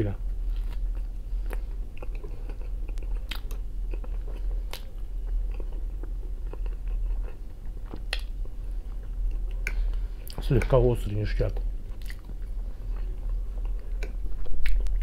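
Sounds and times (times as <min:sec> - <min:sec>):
steady low hum: 0:00.0 - 0:15.0
person chewing: 0:00.4 - 0:10.8, 0:11.6 - 0:15.0.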